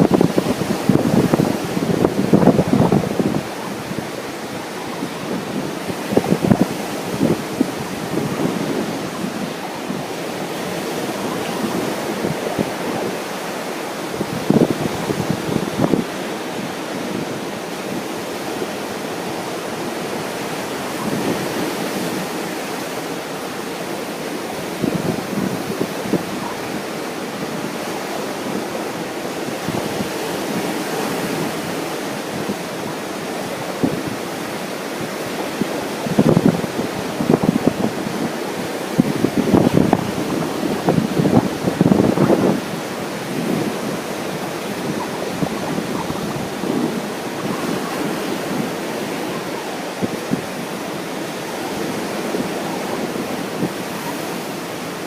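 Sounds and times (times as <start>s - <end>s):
ocean surf washing onto beach: 0.0s - 55.0s
wind buffeting microphone: 0.0s - 55.0s.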